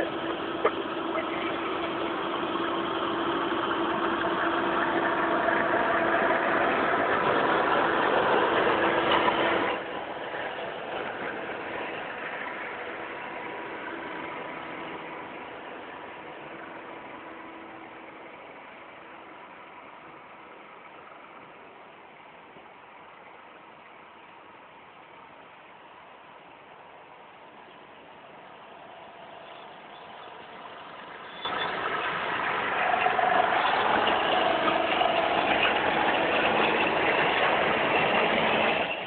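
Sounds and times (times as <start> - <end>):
semi truck diesel engines passing: 0.0 - 39.0.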